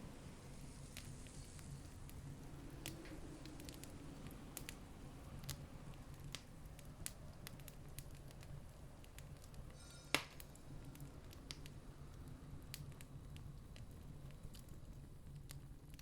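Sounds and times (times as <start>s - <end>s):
campfire crackling: 0.5s - 16.0s.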